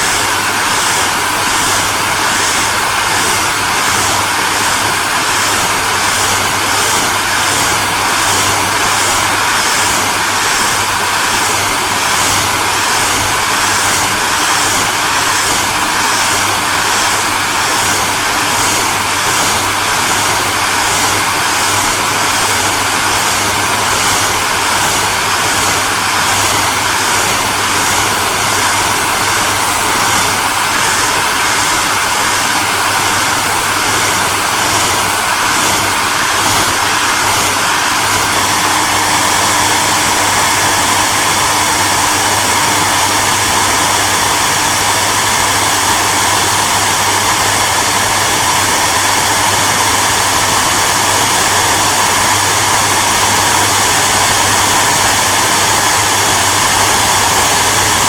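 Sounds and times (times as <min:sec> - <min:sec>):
hairdryer running: 0:00.0 - 0:58.0.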